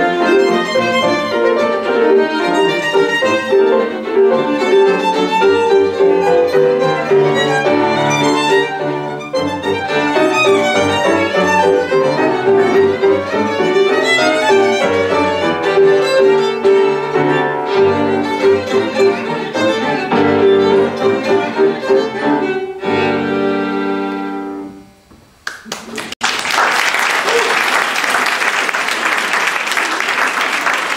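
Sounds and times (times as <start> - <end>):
violin: 0.0 - 24.9
piano accompaniment: 0.0 - 25.4.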